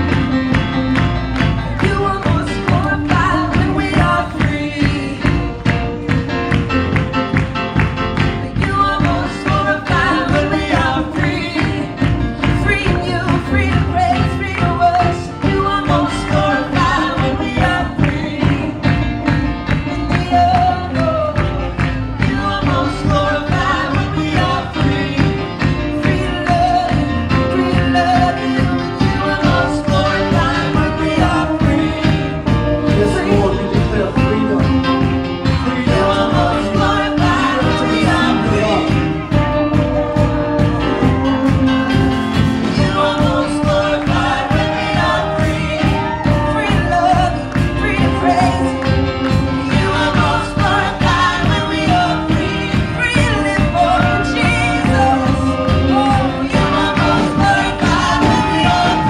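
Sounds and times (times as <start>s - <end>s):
worship singing over a band: 0.0s - 59.0s.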